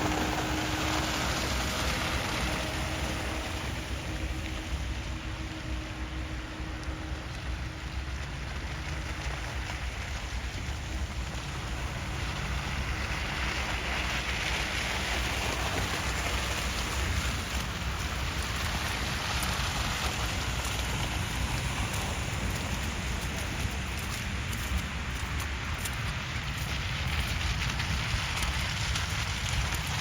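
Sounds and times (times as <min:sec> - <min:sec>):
low traffic rumble: 0:00.0 - 0:30.0
tyres hissing on wet road: 0:00.0 - 0:30.0.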